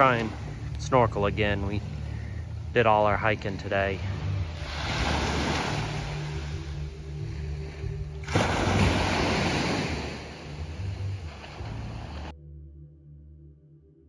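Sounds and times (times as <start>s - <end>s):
small waves washing up a beach: 0.0s - 12.3s.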